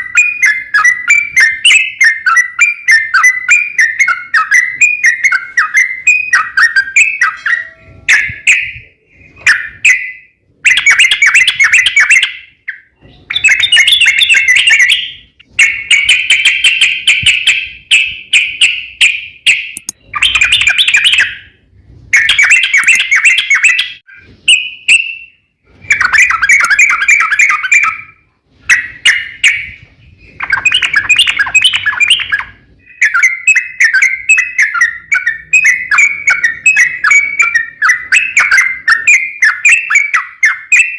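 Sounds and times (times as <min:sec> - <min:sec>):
bulbul singing: 0:00.0 - 0:21.6, 0:22.2 - 0:40.9.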